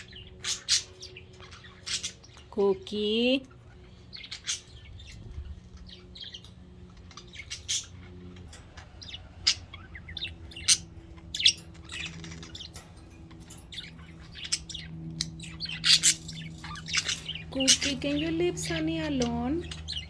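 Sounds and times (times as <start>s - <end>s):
budgerigars chirping and chattering: 0.0s - 20.0s.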